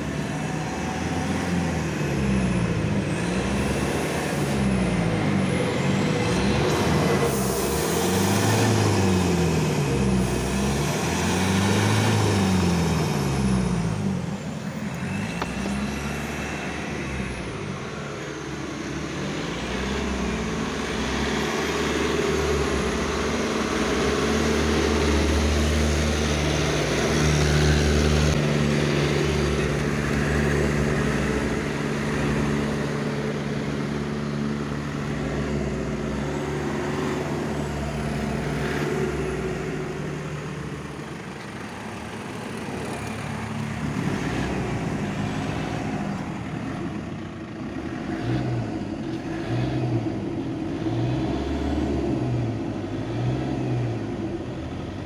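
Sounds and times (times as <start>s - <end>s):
van engine revving: 0.0s - 55.0s.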